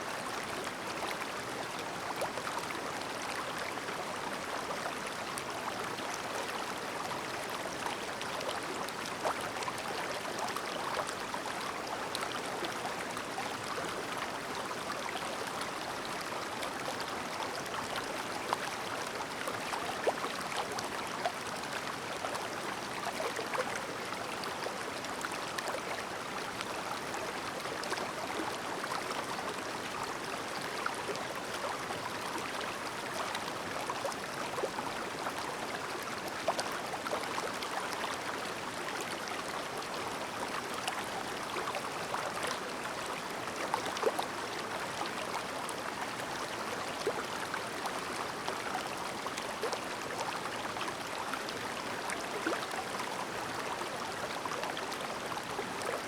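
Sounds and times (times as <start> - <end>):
stream babbling over stones: 0.1 - 56.0.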